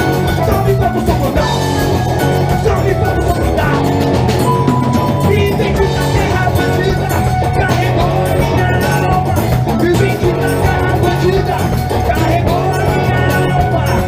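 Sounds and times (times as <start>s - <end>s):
bass: 0.0s - 14.0s
drum kit: 0.0s - 14.0s
electric guitar: 0.0s - 14.0s
keyboard: 0.0s - 14.0s.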